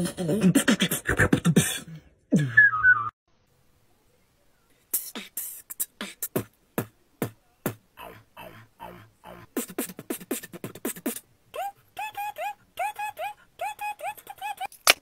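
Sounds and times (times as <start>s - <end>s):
person beatboxing: 0.0s - 2.6s, 4.9s - 14.7s.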